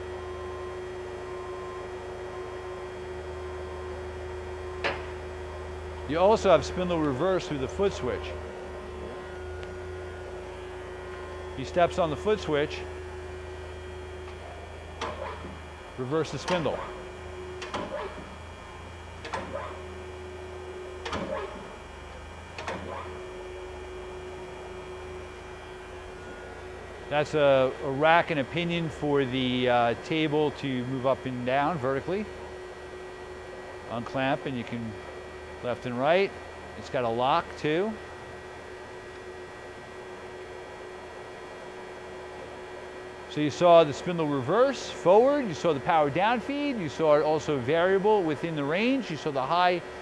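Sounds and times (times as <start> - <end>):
drill press humming: 0.0 - 50.0.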